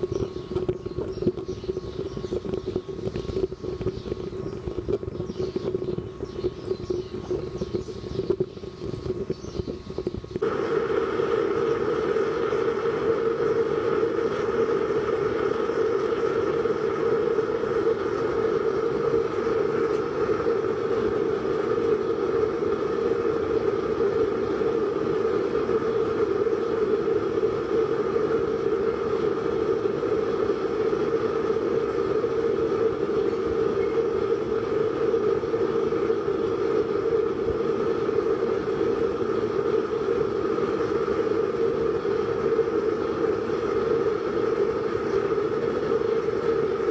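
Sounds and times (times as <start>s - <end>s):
constant blower hum: 0.0s - 46.9s
flame and blown air rushing: 0.0s - 46.9s.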